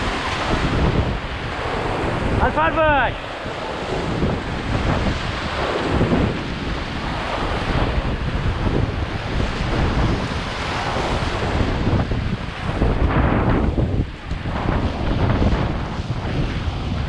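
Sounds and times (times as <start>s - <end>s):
whitewater roaring: 0.0s - 17.0s
wind buffeting microphone: 0.0s - 17.0s.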